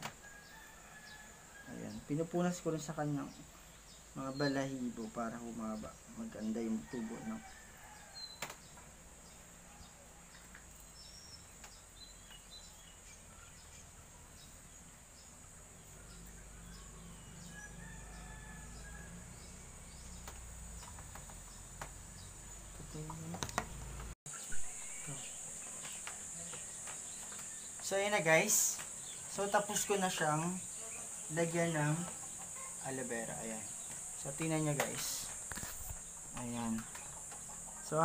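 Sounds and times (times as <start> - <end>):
crickets droning: 0.0 - 9.6, 10.8 - 38.0.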